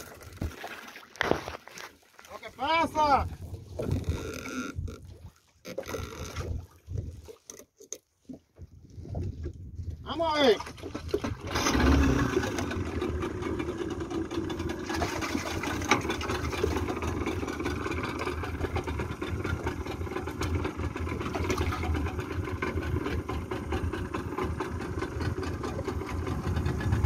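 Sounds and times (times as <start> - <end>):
outboard motor idling: 2.4 - 27.0.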